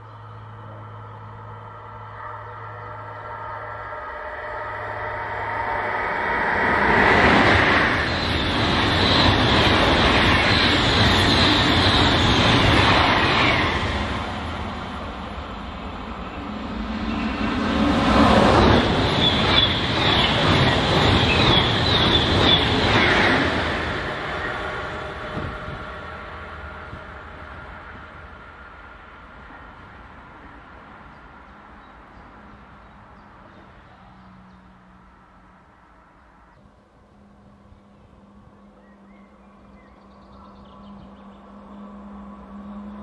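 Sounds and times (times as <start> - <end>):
electric trains passing: 0.0 - 43.0.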